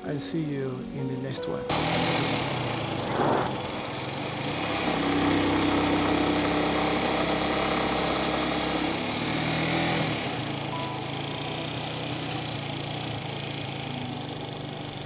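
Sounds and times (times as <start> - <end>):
motorcycle engine running: 1.7 - 15.0.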